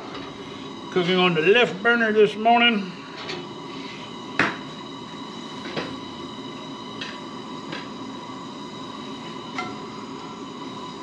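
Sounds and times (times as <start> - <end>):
gas stove burner hissing: 0.0 - 11.0.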